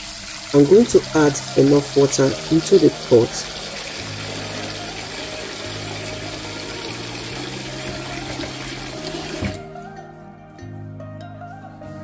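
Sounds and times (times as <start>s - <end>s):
tap water pouring into pot: 0.0s - 9.6s
soft background music: 0.2s - 12.0s.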